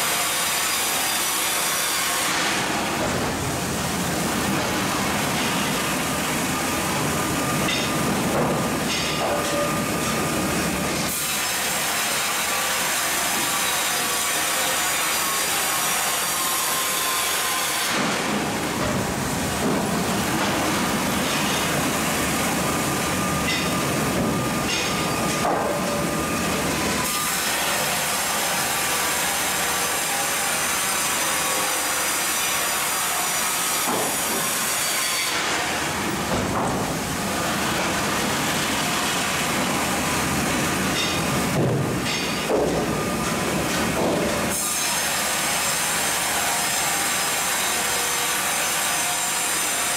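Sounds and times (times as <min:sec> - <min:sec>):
band saw and conveyor din: 0:00.0 - 0:49.9.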